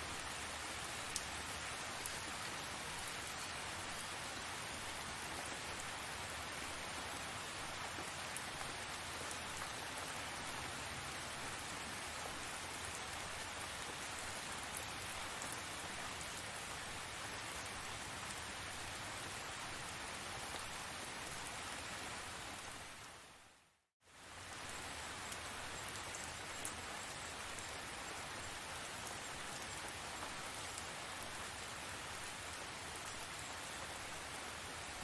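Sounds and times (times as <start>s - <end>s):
steady rain pattering: 0.0s - 35.0s.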